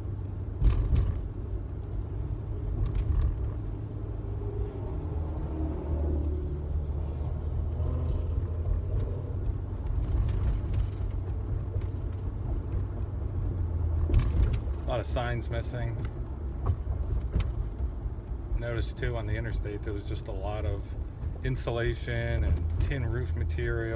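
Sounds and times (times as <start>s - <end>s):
car road and engine rumble: 0.0s - 23.9s.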